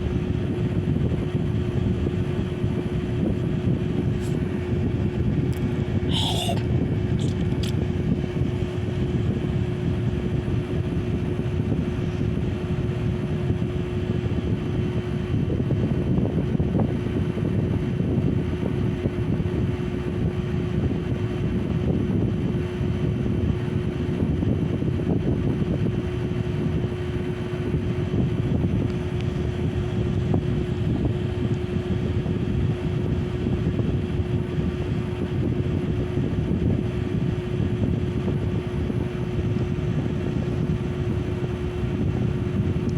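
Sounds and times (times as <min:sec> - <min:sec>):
ceiling fan motor hum: 0:00.0 - 0:42.9
fan blades rushing air: 0:00.0 - 0:42.9.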